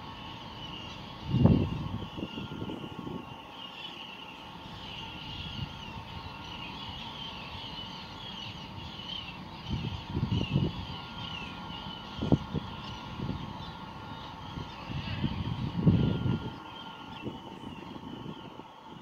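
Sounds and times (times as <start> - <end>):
high wavering chirps: 0.0 - 19.0
machinery hum: 0.0 - 19.0.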